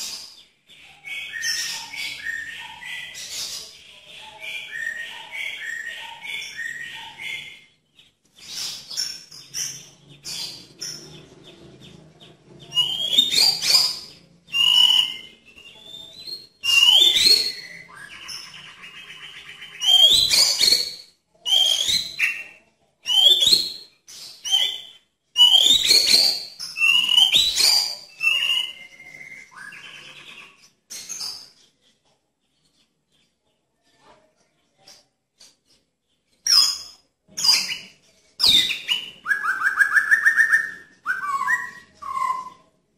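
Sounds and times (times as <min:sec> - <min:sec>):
bird singing: 0:00.0 - 0:34.2, 0:35.6 - 0:42.9.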